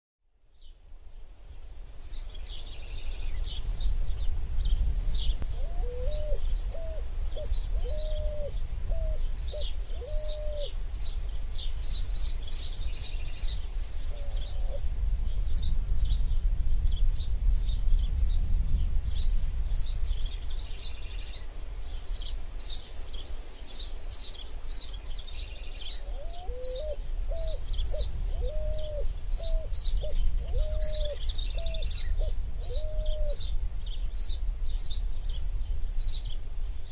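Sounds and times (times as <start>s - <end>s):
birds chirping: 1.4s - 16.3s, 19.0s - 36.9s.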